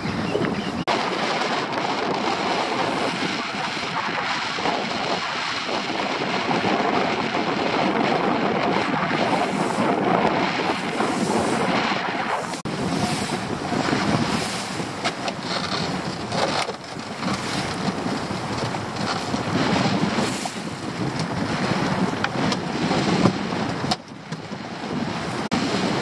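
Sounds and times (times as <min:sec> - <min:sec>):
outboard motor running: 0:00.0 - 0:26.0
water splashing along boat hull: 0:00.0 - 0:26.0
wind buffeting microphone: 0:00.0 - 0:26.0.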